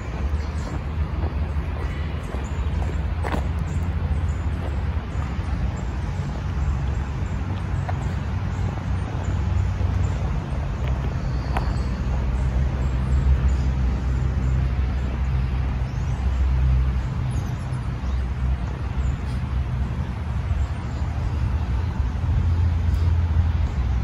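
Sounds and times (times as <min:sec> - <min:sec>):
low rumble of road traffic: 0:00.0 - 0:24.0.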